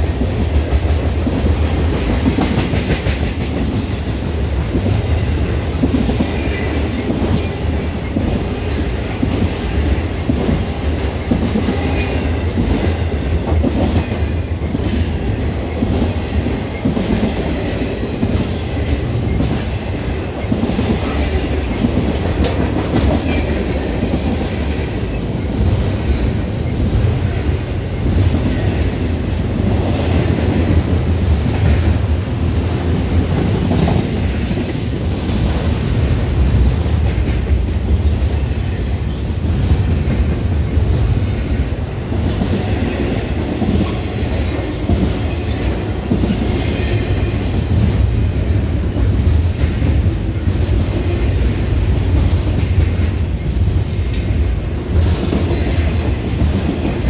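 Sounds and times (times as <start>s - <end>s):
railroad cars rolling past: 0.0s - 57.0s
steel wheels clacking on rails: 0.0s - 57.0s.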